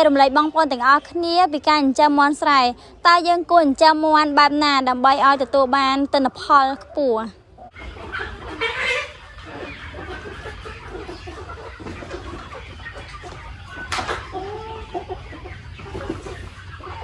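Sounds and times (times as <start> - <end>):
chicks clucking and calling: 0.0 - 17.0.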